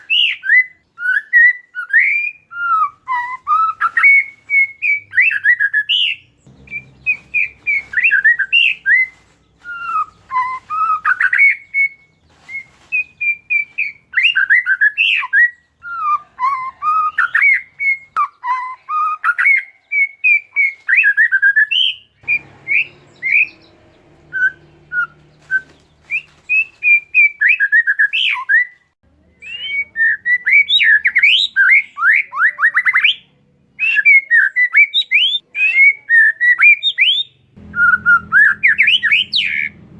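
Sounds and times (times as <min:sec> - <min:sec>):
songbird whistling and chirping: 0:00.0 - 0:39.9.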